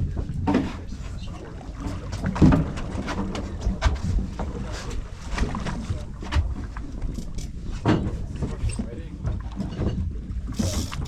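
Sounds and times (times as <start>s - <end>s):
boat engine running at low revs: 0.0s - 11.0s
water noise: 0.0s - 11.0s.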